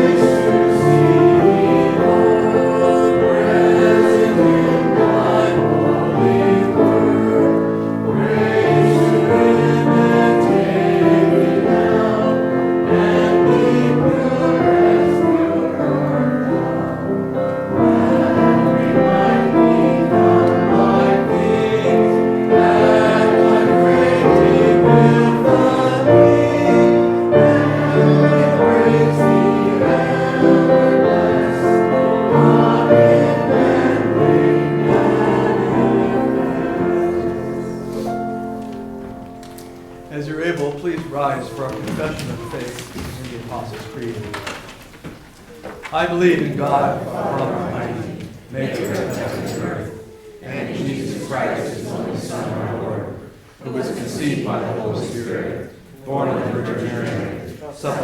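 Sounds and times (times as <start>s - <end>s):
voices singing a hymn: 0.0s - 58.0s.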